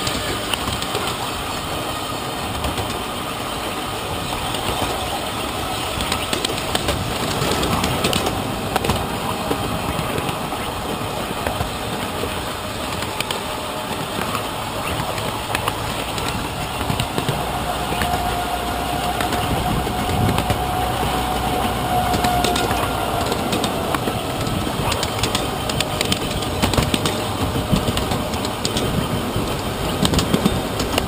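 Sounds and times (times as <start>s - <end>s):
train wheels rattling on rails: 0.0s - 31.0s
scattered clicks: 5.8s - 31.0s.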